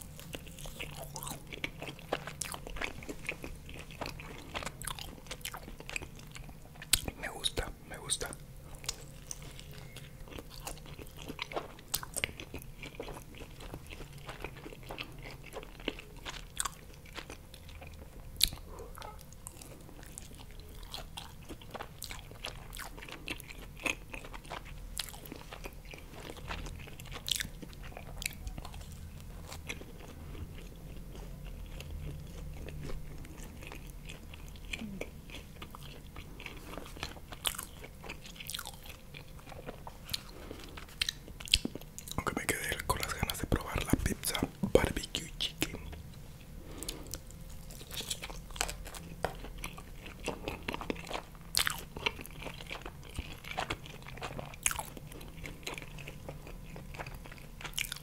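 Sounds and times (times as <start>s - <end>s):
chewing pizza with mouth clicks: 0.0s - 58.0s.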